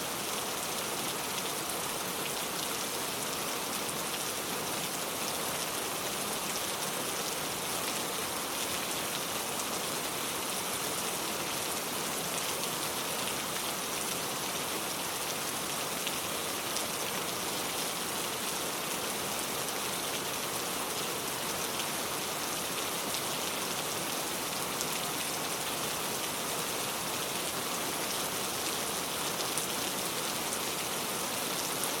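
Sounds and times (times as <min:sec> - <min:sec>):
steady rain on a surface: 0:00.0 - 0:32.0.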